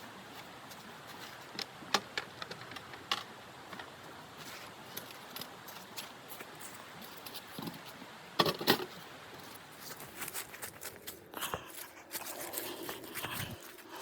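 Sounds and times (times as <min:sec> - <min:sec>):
small clicks and scrapes: 0:00.7 - 0:13.9
rustling: 0:02.4 - 0:14.0.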